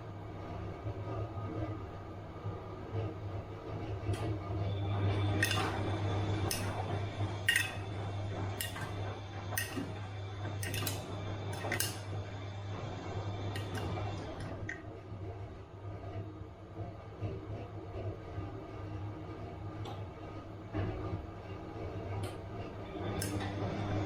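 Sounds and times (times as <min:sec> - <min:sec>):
washing machine humming: 0:00.0 - 0:24.0.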